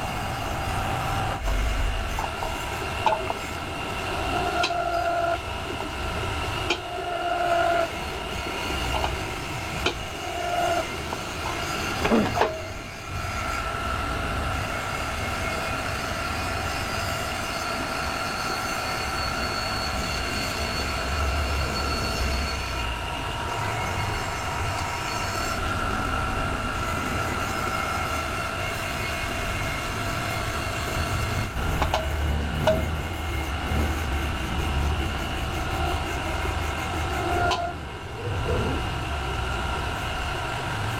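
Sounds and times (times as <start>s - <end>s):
machine whine over low rumble: 0.0s - 40.9s.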